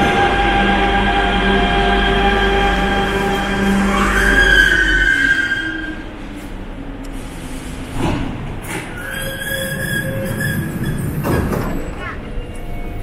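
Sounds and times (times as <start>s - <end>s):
subway train high whine: 0.0s - 13.0s
wheel and rail rumble: 0.0s - 13.0s.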